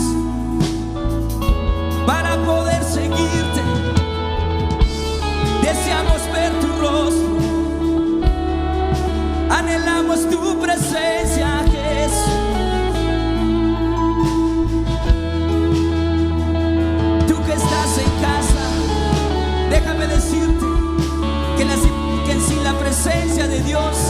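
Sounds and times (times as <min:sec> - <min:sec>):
worship band playing gospel: 0:00.0 - 0:24.0
person singing: 0:01.9 - 0:24.0.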